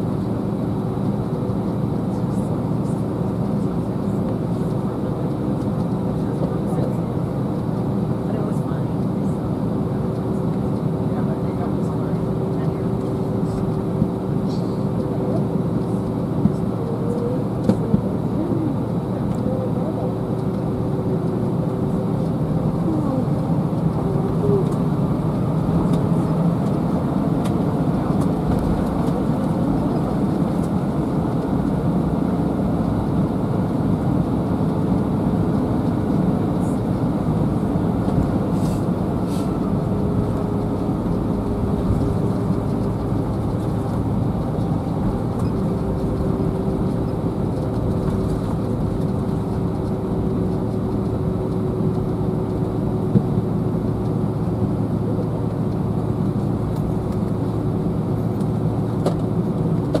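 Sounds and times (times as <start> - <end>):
jet engines at low thrust: 0.0 - 60.0.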